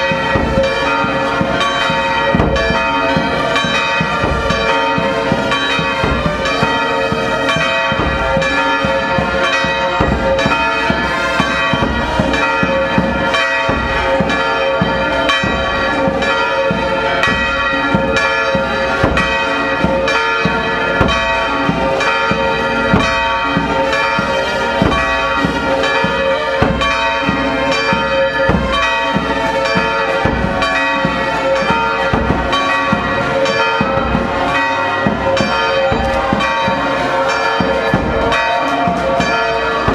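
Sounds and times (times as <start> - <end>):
church bells pealing: 0.0 - 39.9
marching drum band: 0.0 - 39.9.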